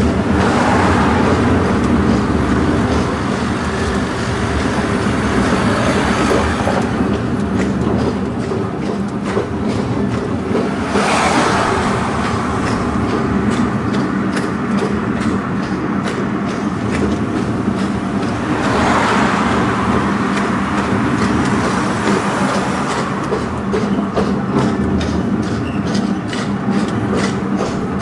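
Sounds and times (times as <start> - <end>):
iron wheels rumbling on rails: 0.0 - 28.0.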